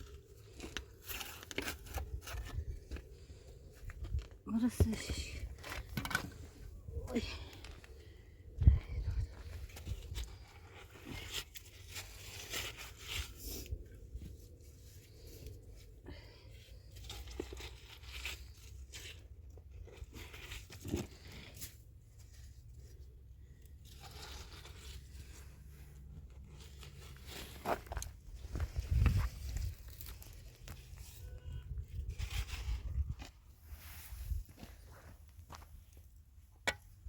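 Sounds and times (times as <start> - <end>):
crunching and rustling handling noise: 0.0 - 37.0.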